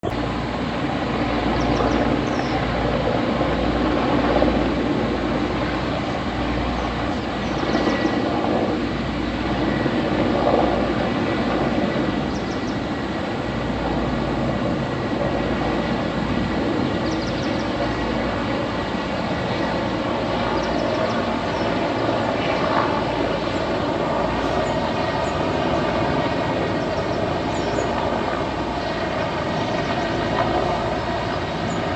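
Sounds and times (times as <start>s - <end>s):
helicopter engine and rotor drone: 0.0s - 31.9s.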